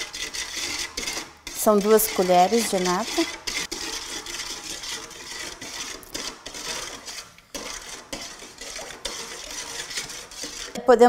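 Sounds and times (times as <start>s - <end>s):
spoon stirring in metal bowl: 0.0s - 11.0s.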